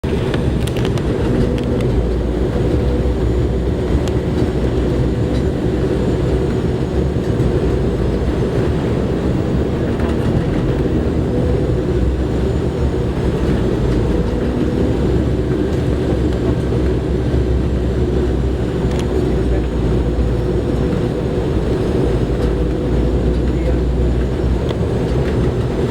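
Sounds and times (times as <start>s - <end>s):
airliner cabin rumble: 0.0s - 25.9s
steady hums: 0.0s - 25.9s.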